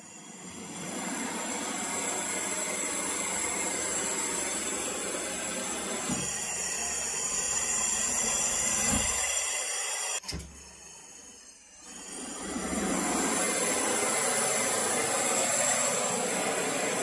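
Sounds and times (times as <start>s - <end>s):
propane torch hissing: 0.0s - 17.0s.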